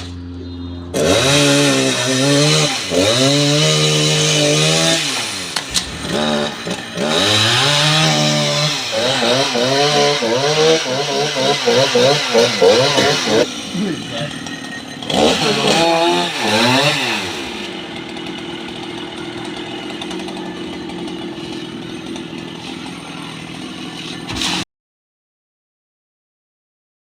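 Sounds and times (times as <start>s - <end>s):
chainsaw revving: 0.9s - 24.6s.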